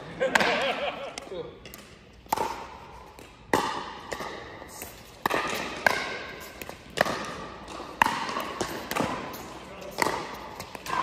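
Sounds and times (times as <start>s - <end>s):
ball bouncing on court: 0.2s - 11.0s
paddles hitting plastic ball: 0.3s - 11.0s.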